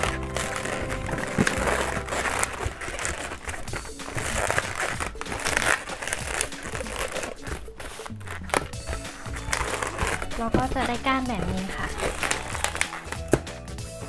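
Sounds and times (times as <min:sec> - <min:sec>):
background music: 0:00.0 - 0:14.0
balloon rubber crinkling: 0:00.0 - 0:14.0.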